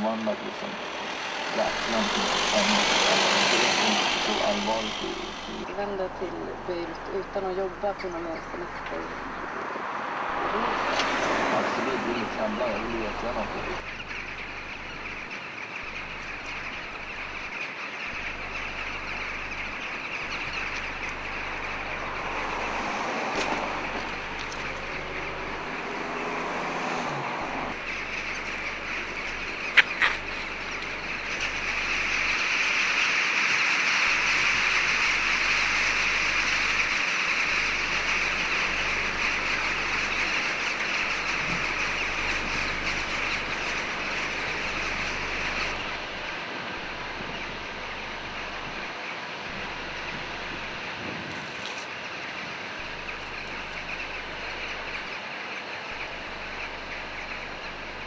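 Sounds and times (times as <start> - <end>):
jackdaws calling: 0.0 - 58.0.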